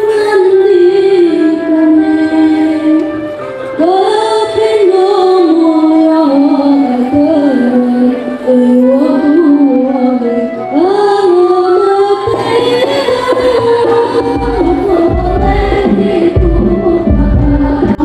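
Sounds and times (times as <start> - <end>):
young woman singing: 0.0 - 3.2, 3.8 - 18.0.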